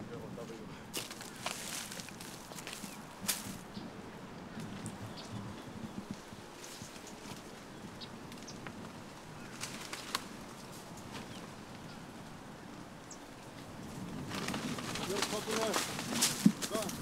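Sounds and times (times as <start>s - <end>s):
low outdoor rustling: 0.0s - 17.0s.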